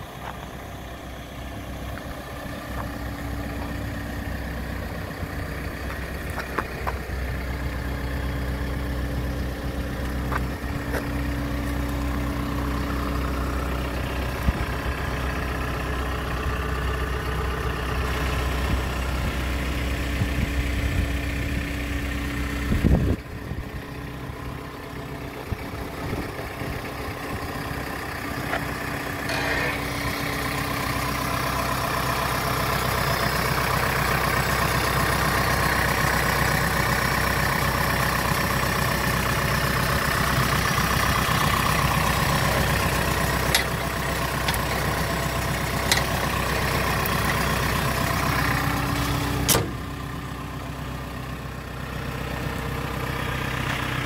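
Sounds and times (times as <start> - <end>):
excavator diesel engine idling: 0.0 - 54.0.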